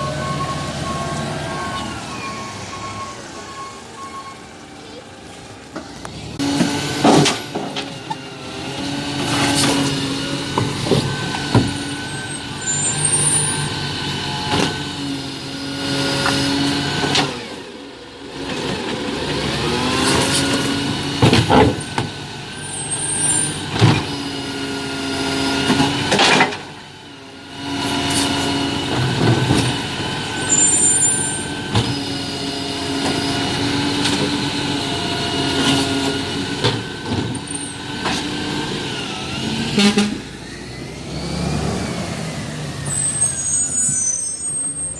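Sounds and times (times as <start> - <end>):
garbage truck diesel engine: 0.0 - 44.9.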